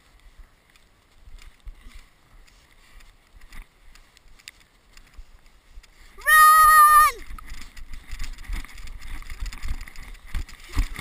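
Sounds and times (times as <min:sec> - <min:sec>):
faint clicks and crunches: 0:00.0 - 0:06.2, 0:07.2 - 0:11.0
wind rumbling on microphone: 0:00.0 - 0:11.0.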